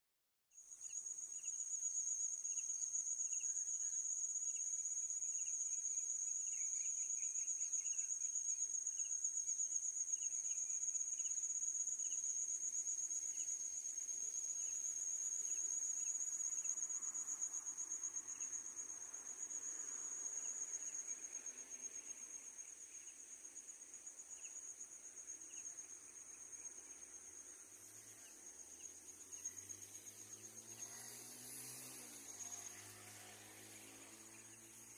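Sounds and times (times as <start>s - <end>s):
crickets trilling: 0.8s - 34.9s.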